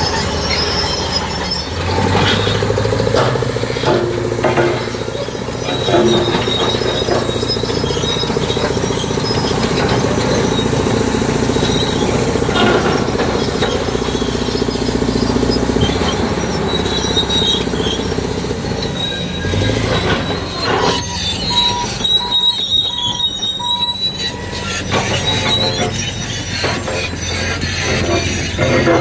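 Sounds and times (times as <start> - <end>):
bulldozer diesel engine running hard: 0.0 - 29.0
metallic squeal of steel tracks: 0.0 - 29.0.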